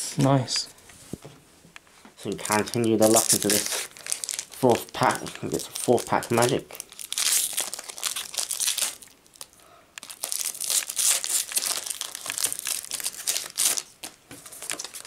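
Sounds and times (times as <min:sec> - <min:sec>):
foil wrapper crinkling: 0:02.4 - 0:15.0.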